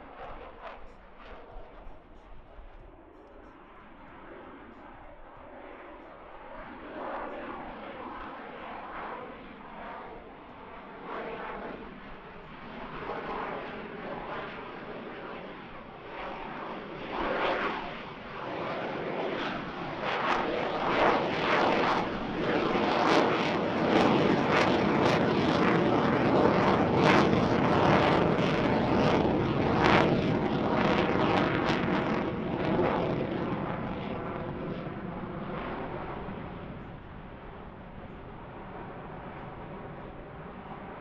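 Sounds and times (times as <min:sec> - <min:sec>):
jet engines roaring overhead: 0:00.0 - 0:41.0.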